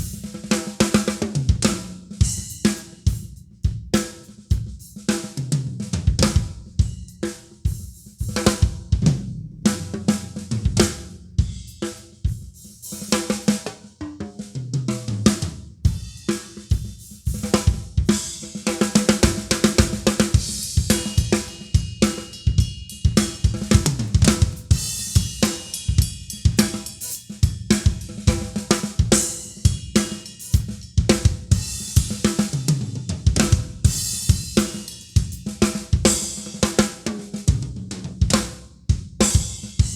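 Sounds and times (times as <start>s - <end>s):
drum kit playing steady beat: 0.0s - 39.9s.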